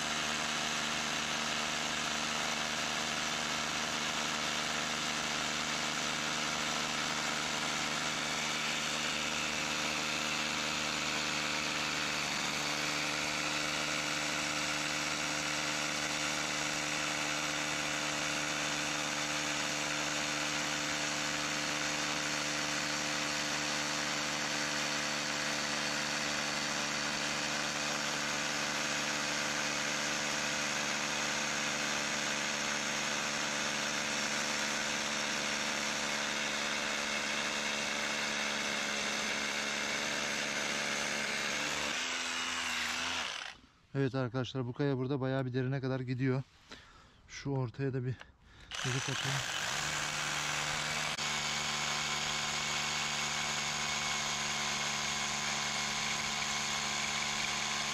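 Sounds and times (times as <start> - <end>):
small engine humming: 0.0 - 43.6, 48.5 - 57.9.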